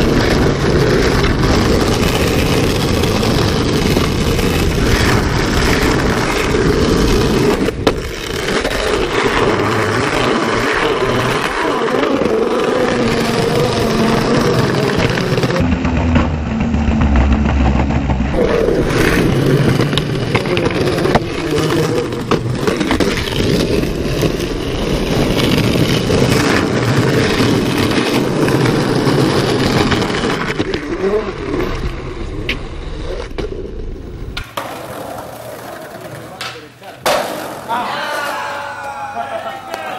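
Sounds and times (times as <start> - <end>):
skateboard clacking on ground: 0.0 - 39.9
skateboard wheels rolling on pavement: 0.0 - 39.9.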